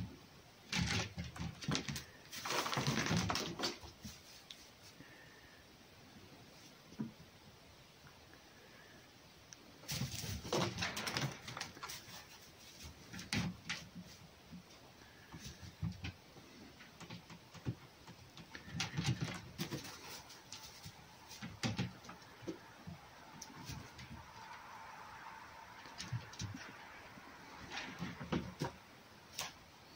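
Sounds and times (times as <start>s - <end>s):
rustling: 0.0s - 7.4s, 8.0s - 29.9s.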